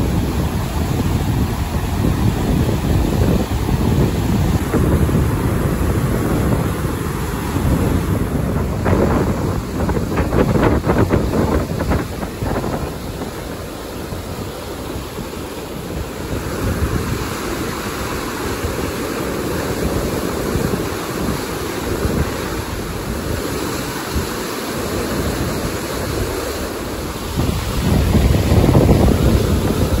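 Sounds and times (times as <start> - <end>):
stream rushing: 0.0 - 30.0
wind buffeting microphone: 0.0 - 30.0.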